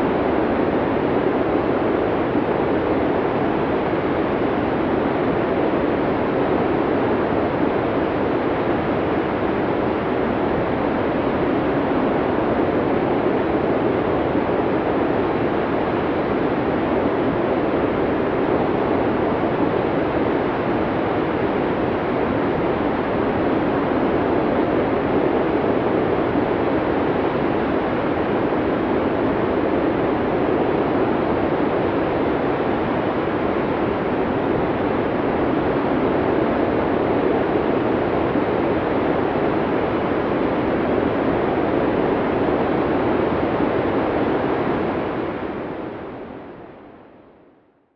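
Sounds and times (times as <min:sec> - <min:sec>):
snowstorm wind: 0:00.0 - 0:46.8.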